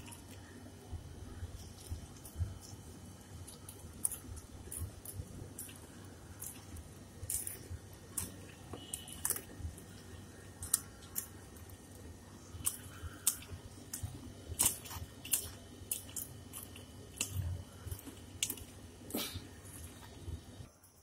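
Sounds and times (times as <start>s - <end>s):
hand mixing fish and egg in bowl: 0.0s - 20.6s.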